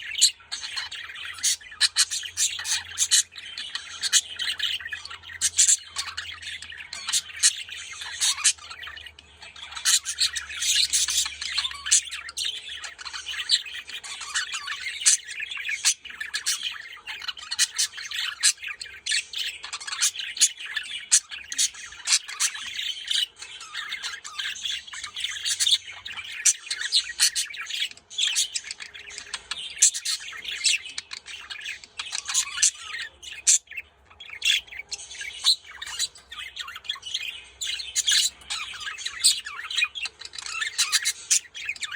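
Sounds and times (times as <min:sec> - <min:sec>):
budgerigars chattering: 0:00.0 - 0:41.9.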